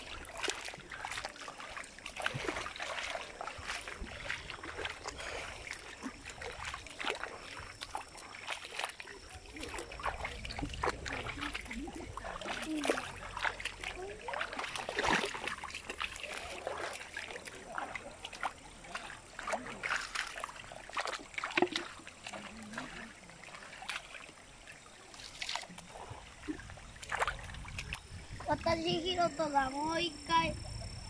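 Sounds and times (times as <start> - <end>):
footsteps splashing in stream: 0.0 - 30.5
running water trickling: 0.0 - 31.0.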